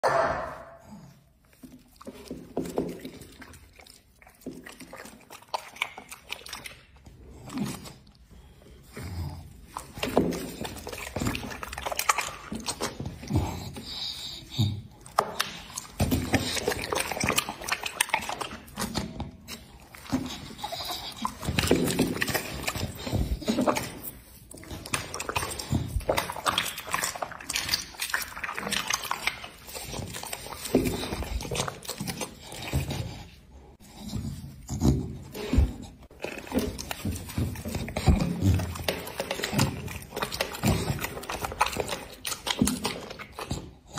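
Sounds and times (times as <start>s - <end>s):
dog chewing and smacking lips: 1.0s - 43.9s.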